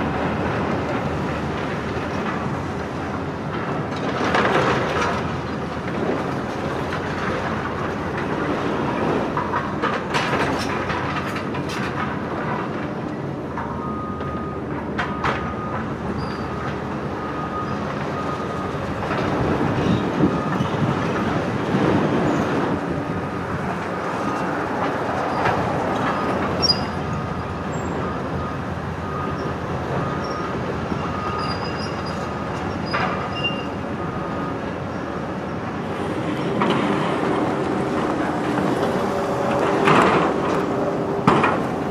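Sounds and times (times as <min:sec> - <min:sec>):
demolition machinery din: 0:00.0 - 0:41.9.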